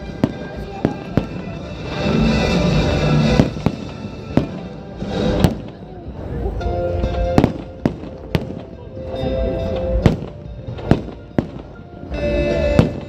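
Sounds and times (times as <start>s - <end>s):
fireworks bangs: 0.0s - 13.0s
music in sustained chords: 0.0s - 13.0s.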